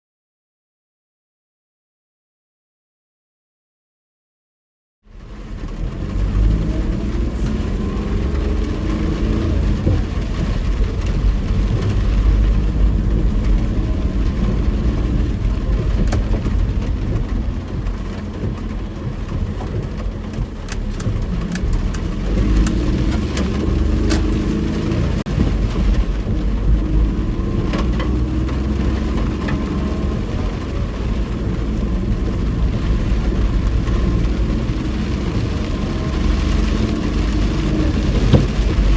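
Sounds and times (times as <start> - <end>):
car engine and road noise: 5.0 - 38.9.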